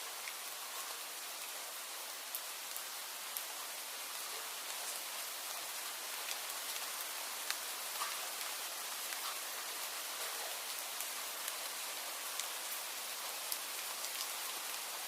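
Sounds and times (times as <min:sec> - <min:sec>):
raindrops ticking close by: 0:00.0 - 0:15.0
steady rain hiss: 0:00.0 - 0:15.0.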